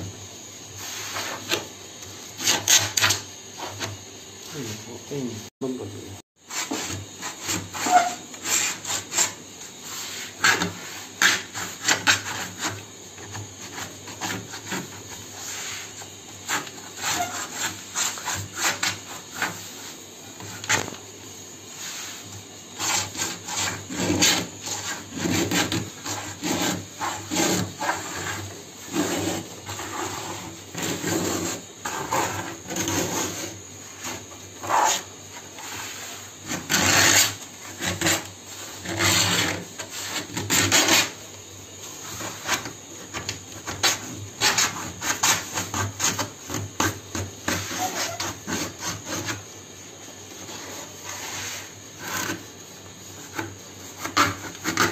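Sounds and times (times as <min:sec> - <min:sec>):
hand tool scraping laminate: 0:00.8 - 0:04.0, 0:06.5 - 0:21.0, 0:21.7 - 0:41.3, 0:42.0 - 0:49.5, 0:50.3 - 0:54.9.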